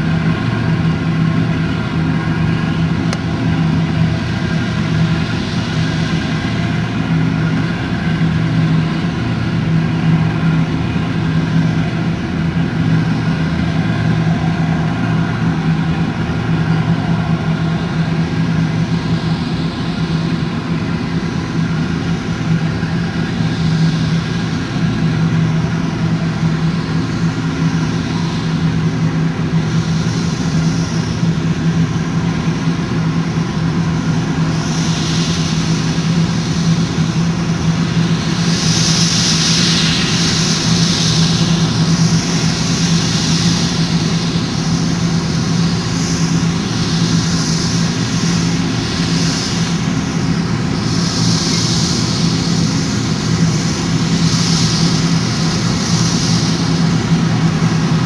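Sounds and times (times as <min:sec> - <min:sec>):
diesel engine hum: 0:00.0 - 0:58.0.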